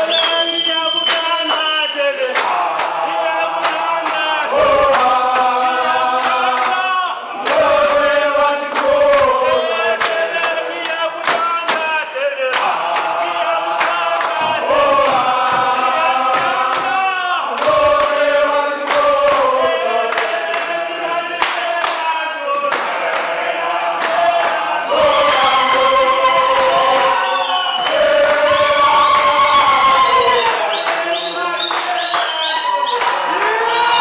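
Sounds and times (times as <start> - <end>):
hand claps: 0.0 - 34.0
men chanting in unison: 1.4 - 32.5.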